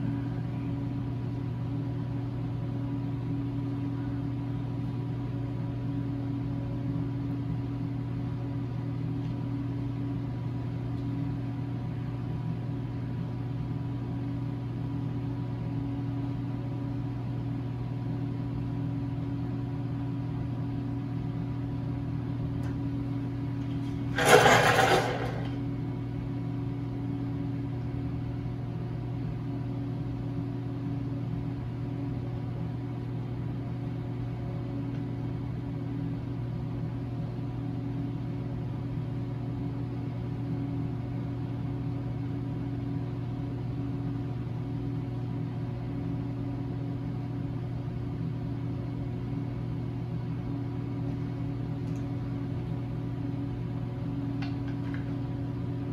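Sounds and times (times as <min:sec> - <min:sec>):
low machine hum: 0:00.0 - 0:55.9.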